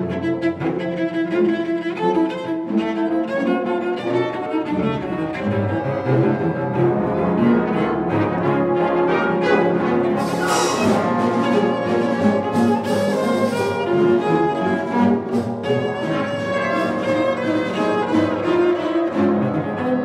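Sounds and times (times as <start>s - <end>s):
solo cello: 0.0s - 20.0s
symphony orchestra playing: 0.0s - 20.0s.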